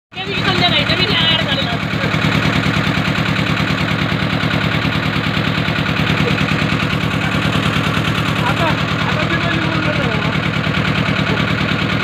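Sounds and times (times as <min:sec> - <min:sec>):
boat engine chugging: 0:00.1 - 0:12.0
water rushing along hull: 0:00.1 - 0:12.0.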